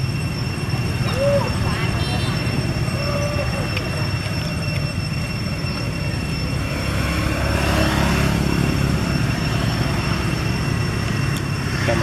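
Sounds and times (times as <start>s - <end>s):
faint high steady tones: 0.0s - 12.0s.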